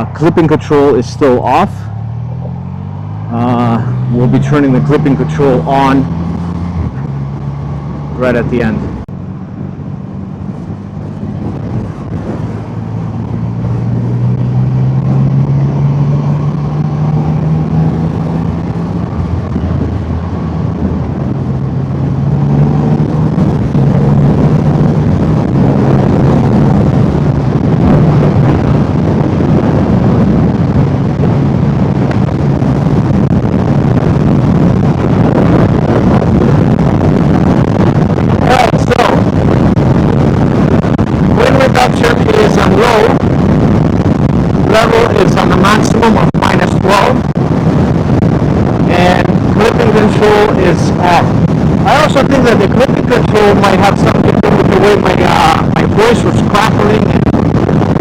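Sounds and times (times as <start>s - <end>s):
wind rush on microphone: 0.0s - 58.0s
motorcycle engine at speed: 1.0s - 58.0s.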